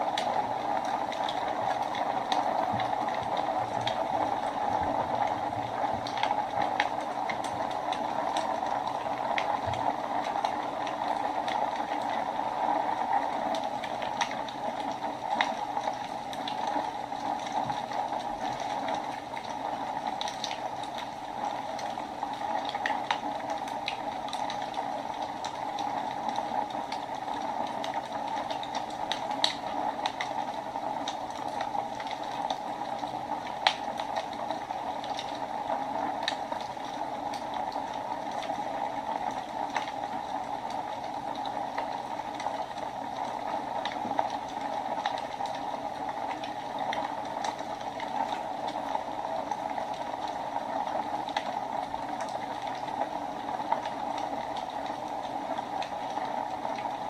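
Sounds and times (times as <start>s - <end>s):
burning logs crackling and popping: 0.0s - 57.0s
wood fire flames hissing: 0.0s - 57.0s.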